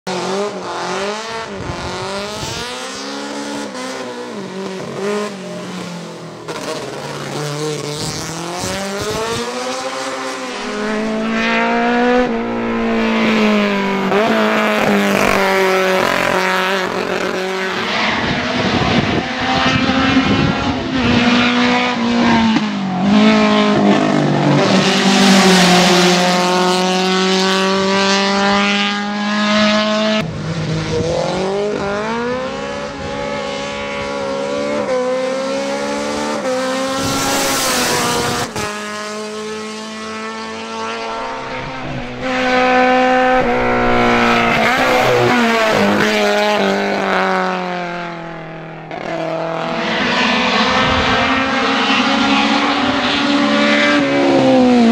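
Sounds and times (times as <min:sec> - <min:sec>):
race car engine revving hard: 0:00.1 - 0:54.9.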